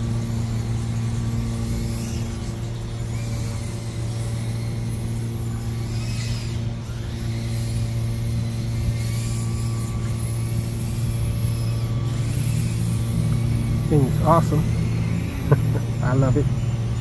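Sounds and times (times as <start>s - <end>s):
quadcopter motors whining: 0.0s - 17.0s
steady low hum: 0.0s - 17.0s.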